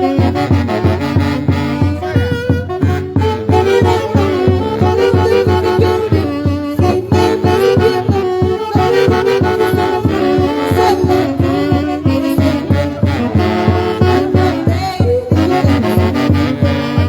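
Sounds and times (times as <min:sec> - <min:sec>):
bass and drum beat: 0:00.0 - 0:17.0
brass melody: 0:00.0 - 0:17.0.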